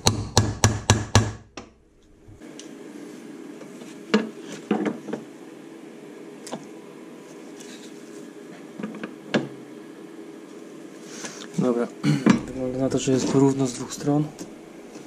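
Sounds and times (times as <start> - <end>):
steady low hum: 1.5 - 15.0.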